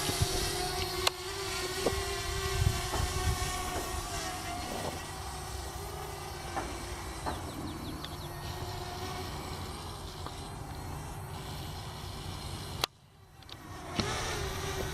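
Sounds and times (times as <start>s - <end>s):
quadcopter propellers humming: 0.0s - 14.9s.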